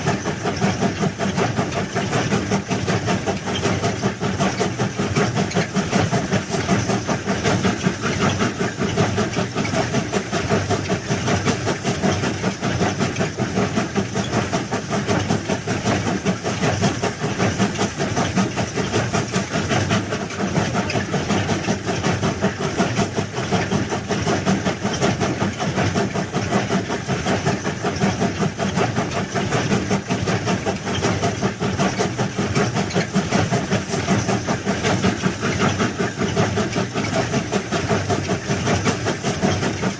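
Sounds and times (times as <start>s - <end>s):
train running: 0.0s - 39.9s.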